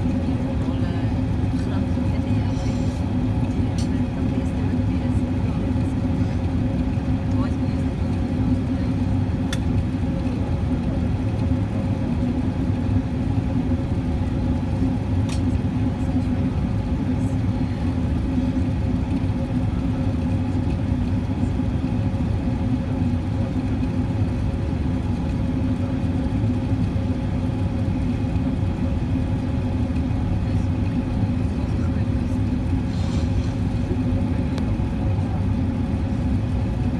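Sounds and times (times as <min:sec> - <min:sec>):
constant low hum: 0:00.0 - 0:36.9
jet engine drone: 0:00.0 - 0:36.9.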